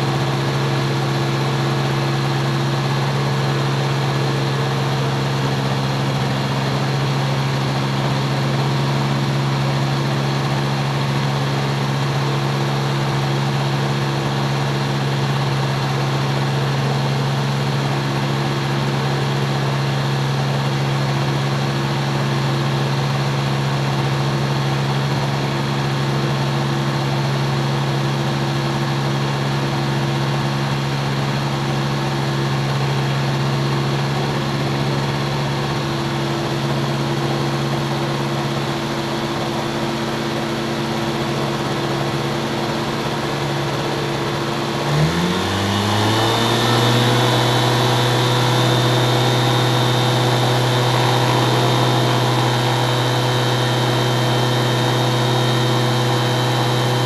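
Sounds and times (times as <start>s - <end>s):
small aircraft engine idling: 0.0s - 57.0s.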